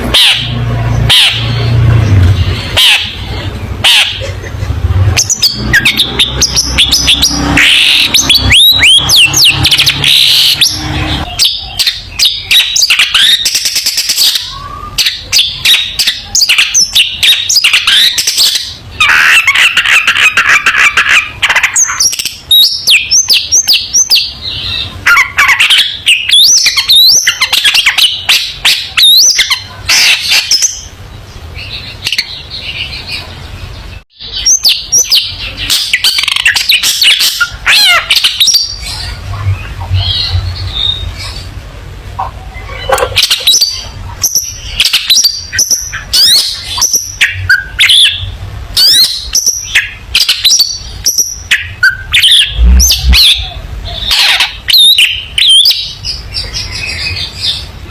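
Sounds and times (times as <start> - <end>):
shrike singing: 0.0 - 41.6, 42.2 - 57.7.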